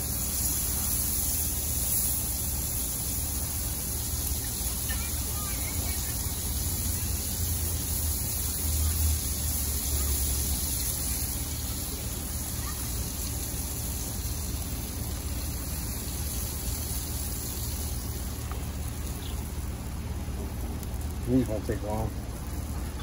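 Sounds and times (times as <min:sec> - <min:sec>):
butter sizzling on a griddle: 0:00.0 - 0:23.0.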